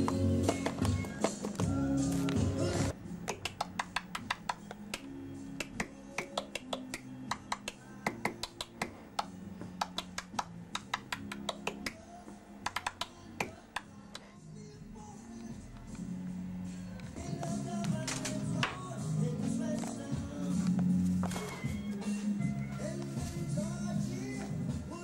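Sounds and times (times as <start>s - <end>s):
faint music: 0.0s - 25.0s.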